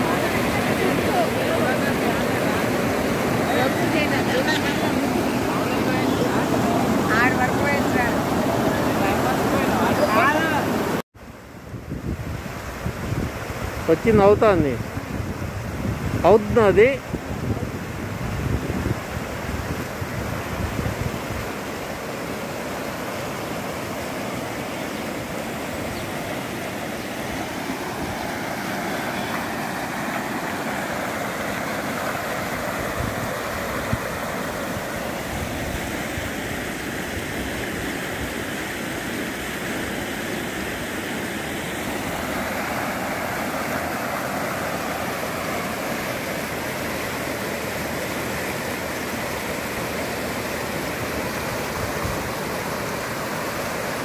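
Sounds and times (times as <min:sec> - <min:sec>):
floodwater rushing: 0:00.0 - 0:11.0, 0:12.1 - 0:54.0.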